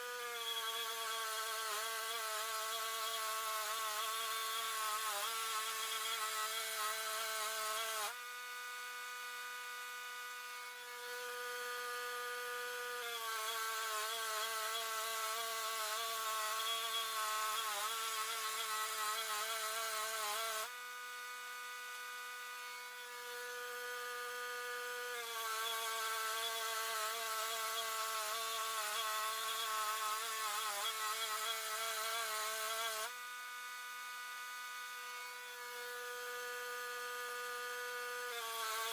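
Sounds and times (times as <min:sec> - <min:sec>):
bandsaw motor hum: 0:00.0 - 0:38.9
saw cutting log: 0:00.0 - 0:38.9.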